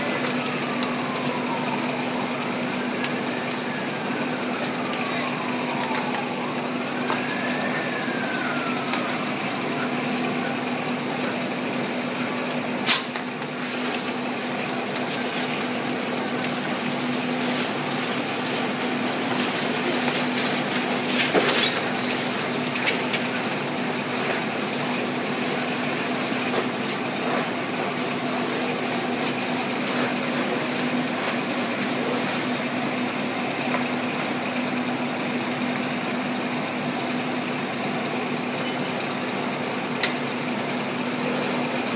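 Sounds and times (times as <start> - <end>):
fire truck engines running: 0.0 - 41.9.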